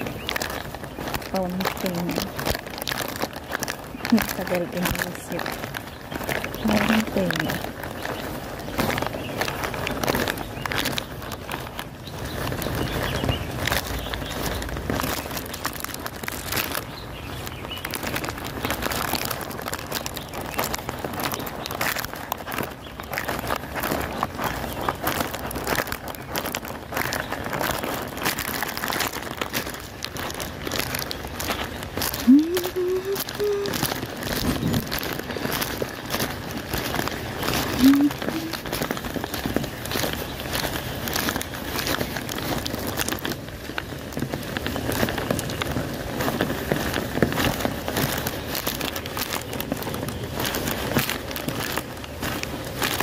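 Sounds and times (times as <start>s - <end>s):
heavy rain on paving and foliage: 0.0s - 53.0s.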